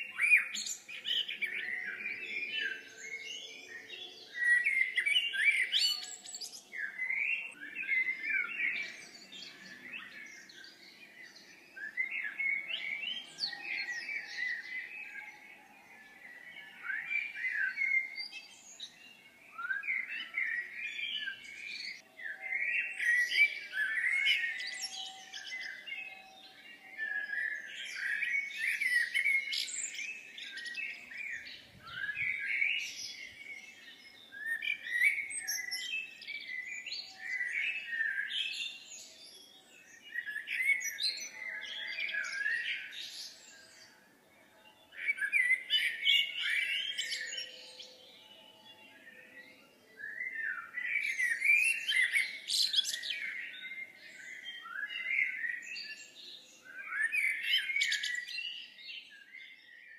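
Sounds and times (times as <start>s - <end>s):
songbirds chirping and twittering: 0.0s - 59.9s.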